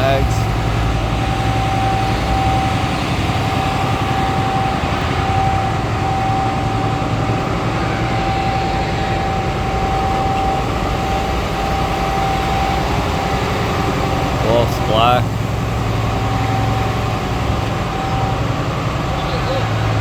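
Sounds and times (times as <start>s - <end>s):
machinery hum: 0.0s - 20.0s
thin steady whine: 0.0s - 20.0s.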